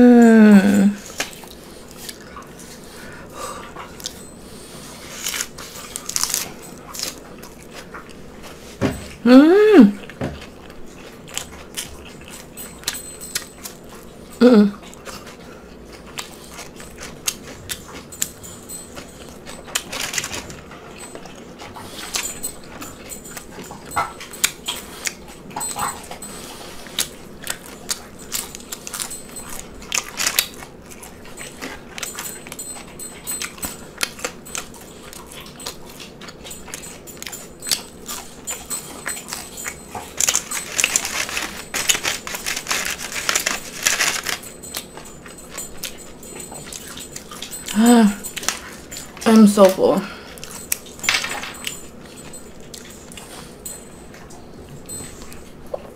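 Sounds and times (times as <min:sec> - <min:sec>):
close chewing with mouth smacks: 0:01.0 - 0:09.2, 0:09.9 - 0:55.9.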